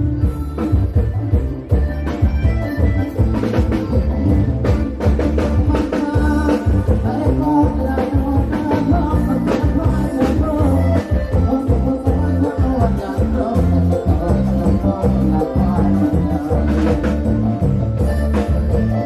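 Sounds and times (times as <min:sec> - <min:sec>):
drum kit beat: 0:00.0 - 0:19.0
heavy bass: 0:00.0 - 0:19.0
loud live rock music: 0:00.0 - 0:19.0.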